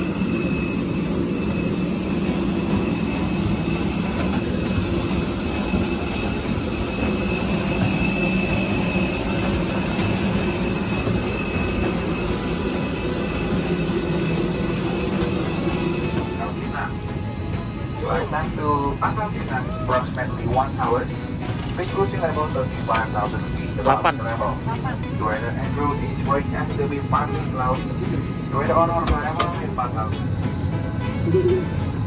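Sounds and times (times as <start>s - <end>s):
jet airliner engine hum: 0.0s - 32.0s.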